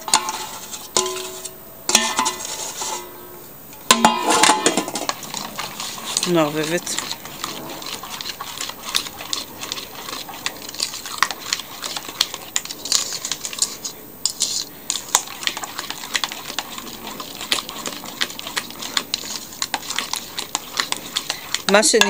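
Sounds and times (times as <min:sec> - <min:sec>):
metal utensil stirring batter in bowl: 0:00.0 - 0:22.0.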